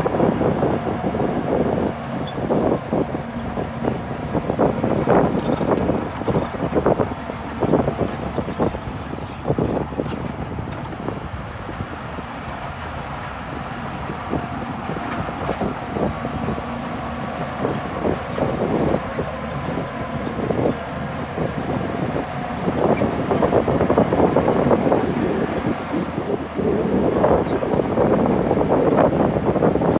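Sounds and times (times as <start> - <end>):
bulldozer diesel engine running: 0.0 - 29.9.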